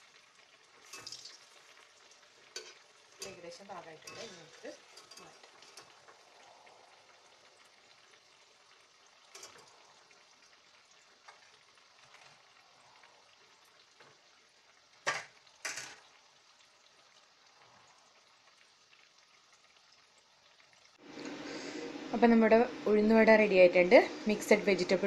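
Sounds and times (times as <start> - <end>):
fritters sizzling in oil: 0.0 - 25.0.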